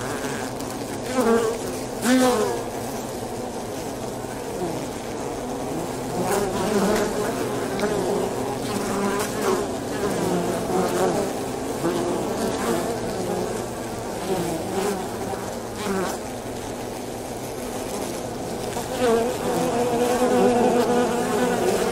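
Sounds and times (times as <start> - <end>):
wasps buzzing: 0.0 - 21.9.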